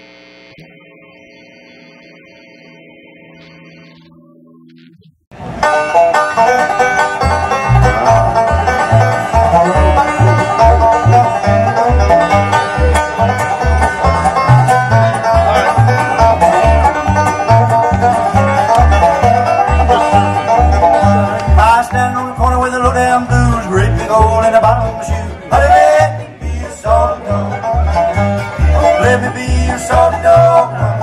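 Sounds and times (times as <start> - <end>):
steady bass line: 0.0 - 31.0
fast banjo picking: 5.4 - 31.0.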